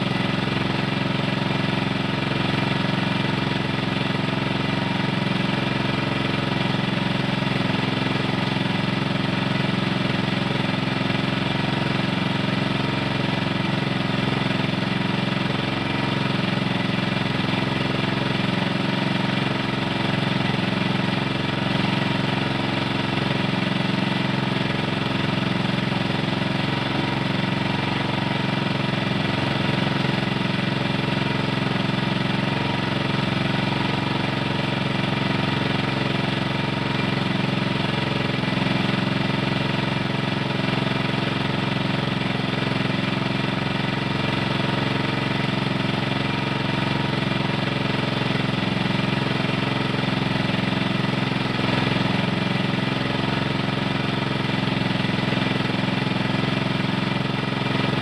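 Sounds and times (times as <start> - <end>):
small engine humming: 0.0 - 58.0.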